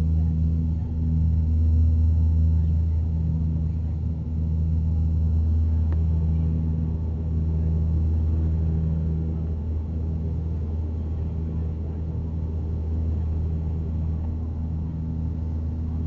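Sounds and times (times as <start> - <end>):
propeller engine drone: 0.0 - 16.0
steady tones: 0.0 - 16.0.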